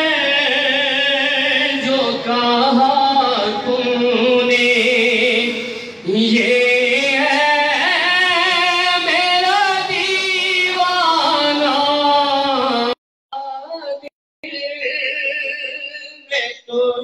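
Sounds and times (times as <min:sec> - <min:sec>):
man chanting unaccompanied: 0:00.0 - 0:15.3.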